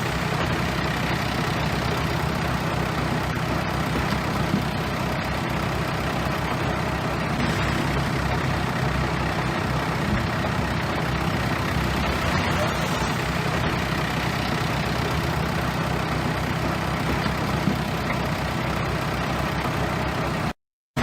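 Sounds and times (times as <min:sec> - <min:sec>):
bulldozer diesel engine running: 0:00.0 - 0:20.6.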